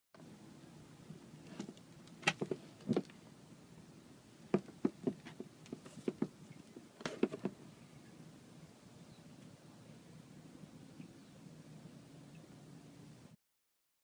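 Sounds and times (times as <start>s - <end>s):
low steady hum: 0.2s - 13.4s.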